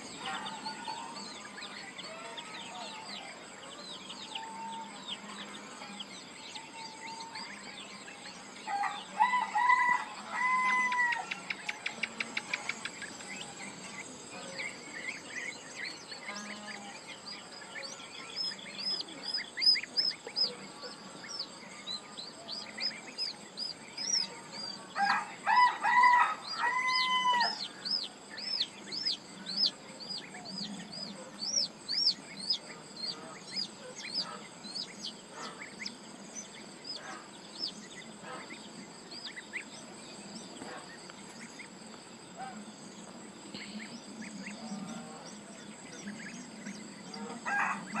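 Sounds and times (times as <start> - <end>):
chicks peeping: 0.0 - 41.9
chickens calling: 0.0 - 48.0.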